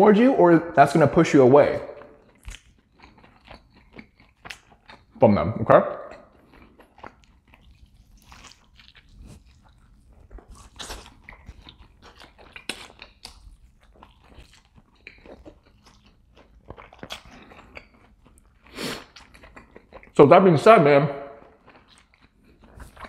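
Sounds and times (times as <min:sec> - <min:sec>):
man chewing food: 0:01.9 - 0:05.2, 0:05.9 - 0:20.2, 0:21.3 - 0:23.0.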